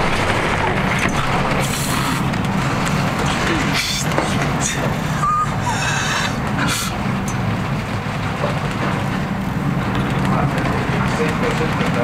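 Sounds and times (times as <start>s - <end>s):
low rumble: 0.0s - 12.0s
wind: 0.0s - 12.0s.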